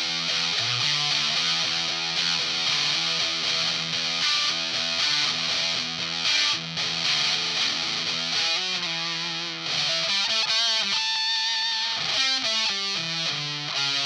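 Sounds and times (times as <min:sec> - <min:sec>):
distorted electric guitar riffing: 0:00.0 - 0:14.0.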